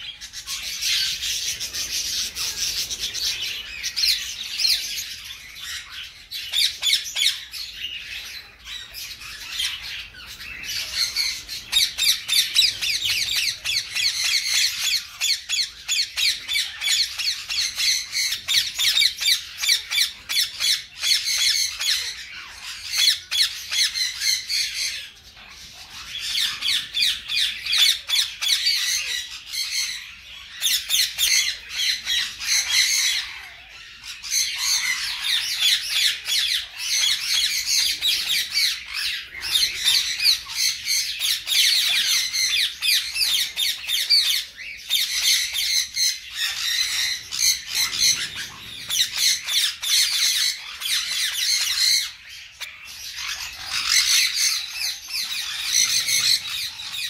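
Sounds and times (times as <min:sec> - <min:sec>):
parrots squawking: 0:00.0 - 0:57.0.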